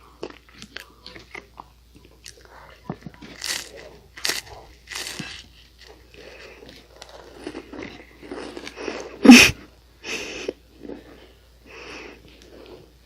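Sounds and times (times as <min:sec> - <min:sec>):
chewing crunchy pastry snack: 0:00.0 - 0:13.0.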